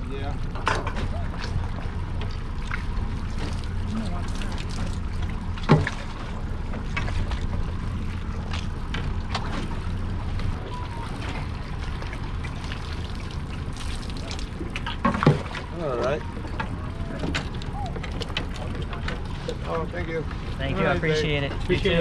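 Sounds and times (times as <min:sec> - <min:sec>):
low rumble: 0:00.0 - 0:22.0
water splashing and dripping: 0:00.0 - 0:22.0.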